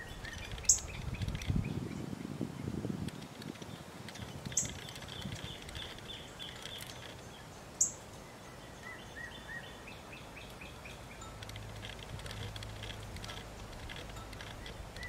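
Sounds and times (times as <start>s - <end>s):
outdoor background hiss: 0.0s - 15.0s
songbirds chirping: 0.0s - 15.0s.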